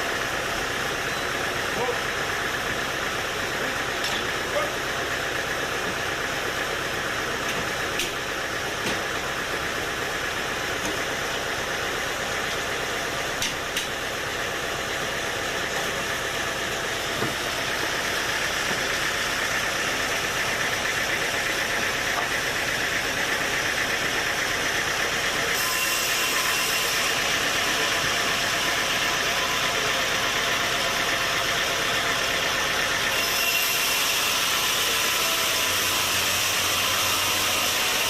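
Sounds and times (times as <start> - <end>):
sawmill machinery droning: 0.0 - 38.0.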